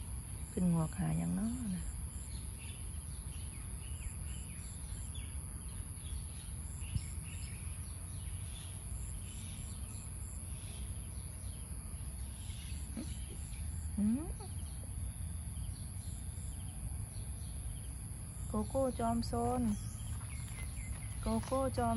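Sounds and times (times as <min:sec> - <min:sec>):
birds chirping: 0:00.4 - 0:21.9.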